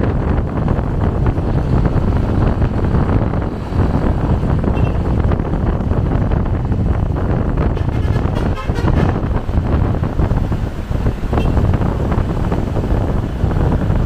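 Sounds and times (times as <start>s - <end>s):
vehicle rumbling on road: 0.0s - 14.0s
wind buffeting microphone: 0.0s - 14.0s.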